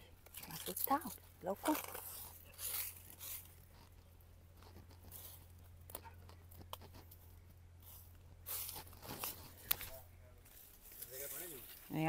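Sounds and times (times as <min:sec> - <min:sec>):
grass rustling and snapping: 0:00.2 - 0:12.0.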